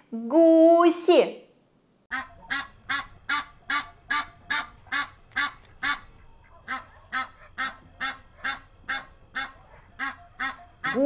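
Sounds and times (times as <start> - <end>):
geese honking: 2.1 - 11.0.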